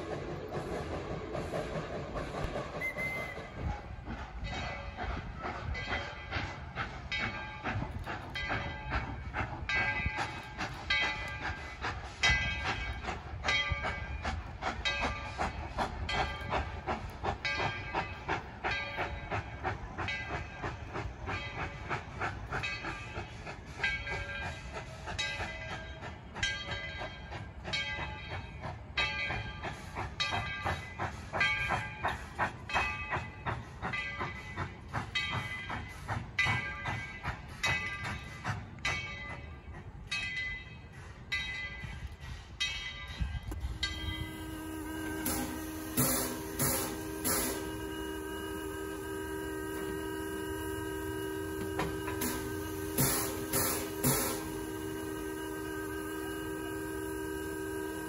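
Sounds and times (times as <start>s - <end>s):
train cars rumbling: 0.0s - 58.0s
metallic ringing of wheels: 4.4s - 58.0s.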